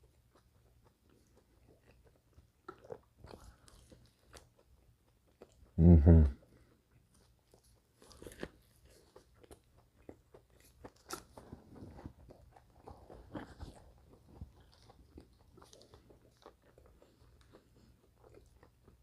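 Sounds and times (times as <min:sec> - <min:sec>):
chewing with small crunches: 0:00.0 - 0:19.0.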